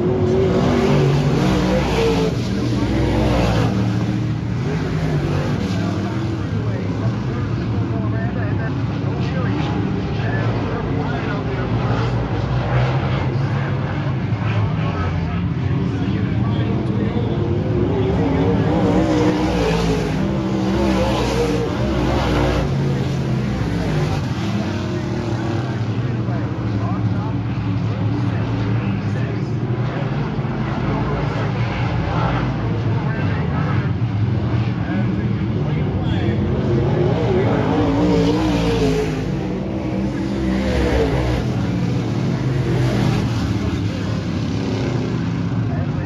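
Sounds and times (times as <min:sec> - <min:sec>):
race car engines: 0:00.0 - 0:46.0.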